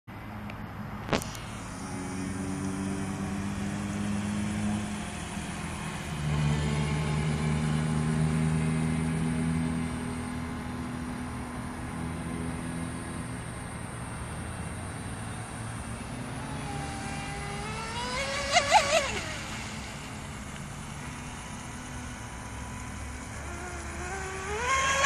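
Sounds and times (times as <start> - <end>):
rc speedboat motor running: 1.4 - 25.0.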